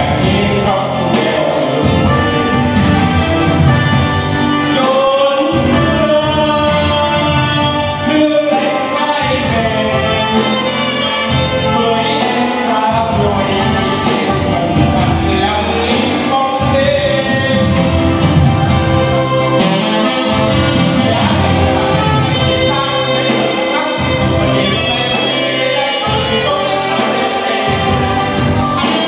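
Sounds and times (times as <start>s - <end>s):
live band music: 0.0s - 29.0s
man singing into microphone: 0.0s - 29.0s.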